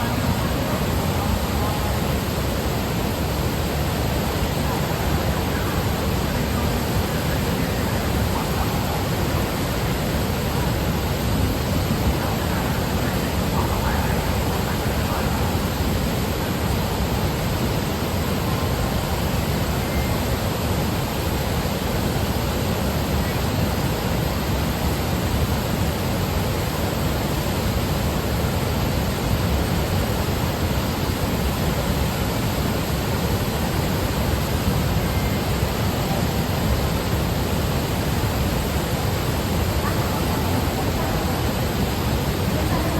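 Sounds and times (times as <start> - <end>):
waterfall and rapids rushing: 0.0 - 42.9.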